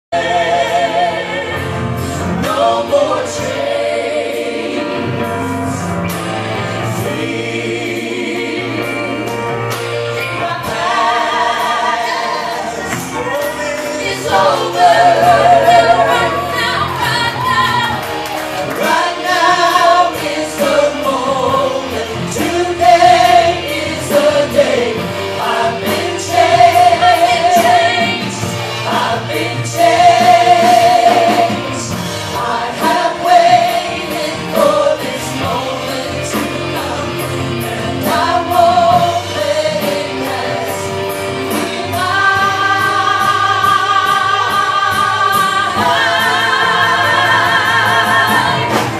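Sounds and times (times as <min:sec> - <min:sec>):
singers singing together: 0:00.0 - 0:48.9
keyboard: 0:00.1 - 0:48.9.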